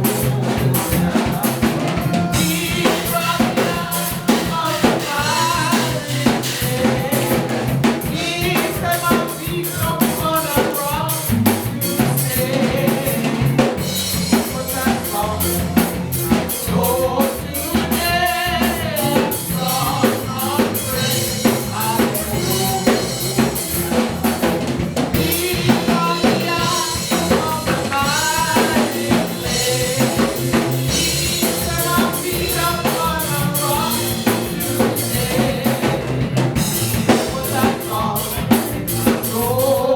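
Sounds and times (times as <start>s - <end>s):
drum kit beat: 0.0s - 39.9s
live worship band playing: 0.0s - 39.9s.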